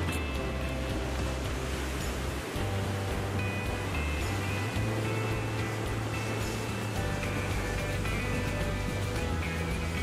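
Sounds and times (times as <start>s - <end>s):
background music with bass notes: 0.0s - 10.0s
noisy wash: 0.0s - 10.0s.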